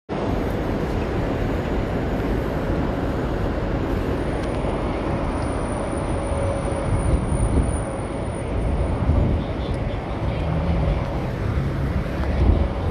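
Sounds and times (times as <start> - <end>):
traffic rumble: 0.1 - 12.9.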